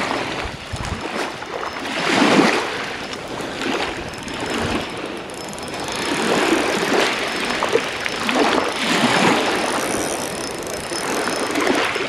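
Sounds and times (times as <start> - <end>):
fishing reel ticking whirr: 0.0 - 12.0.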